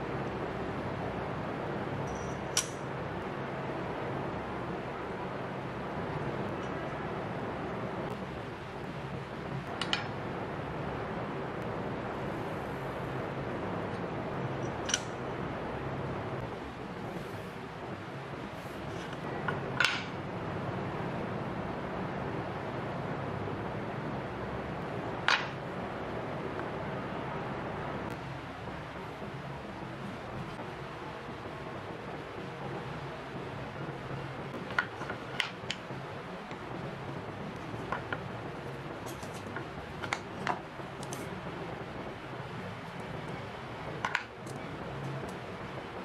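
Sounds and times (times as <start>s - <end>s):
steady hiss and low hum: 0.0s - 46.0s.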